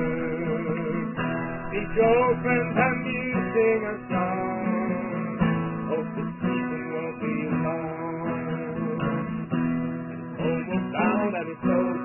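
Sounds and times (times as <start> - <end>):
person singing: 0.0 - 9.5, 10.2 - 12.0
acoustic guitar strumming: 0.0 - 12.0.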